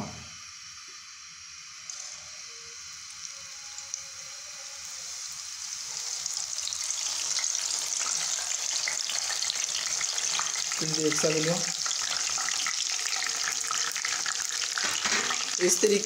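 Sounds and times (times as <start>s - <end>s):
dough sizzling in hot fat: 0.0s - 16.0s.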